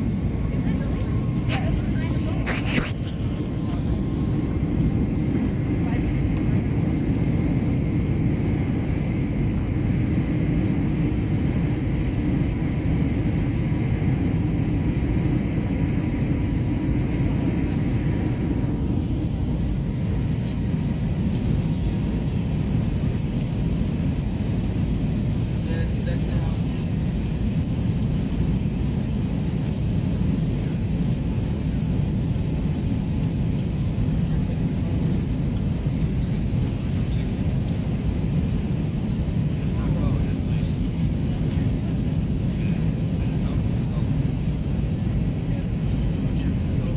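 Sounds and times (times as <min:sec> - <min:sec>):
faint steady whine: 0:00.0 - 0:46.9
jet engine and airflow rumble: 0:00.0 - 0:46.9.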